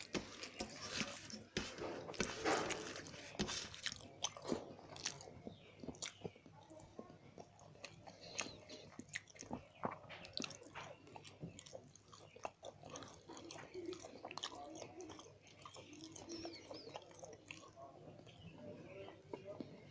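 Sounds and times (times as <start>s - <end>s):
person chewing food: 0.0s - 19.9s.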